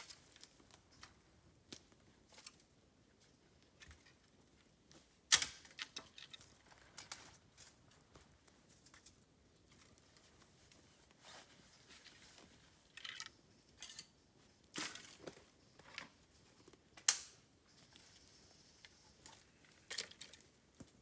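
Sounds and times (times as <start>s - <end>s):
dry bamboo crackling and snapping: 0.0s - 2.7s, 3.6s - 10.8s, 12.0s - 16.2s, 17.0s - 21.0s.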